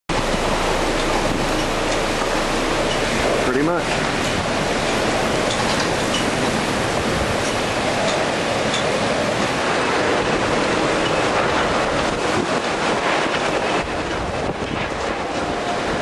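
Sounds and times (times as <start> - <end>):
strong wind roaring: 0.1 - 16.0
wind buffeting microphone: 0.1 - 16.0.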